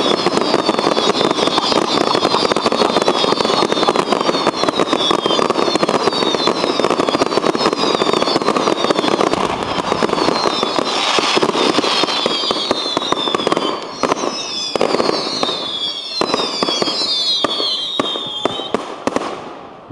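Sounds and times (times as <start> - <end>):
fireworks bangs and crackling: 0.0 - 19.9
fireworks whistles falling in pitch: 0.0 - 19.9.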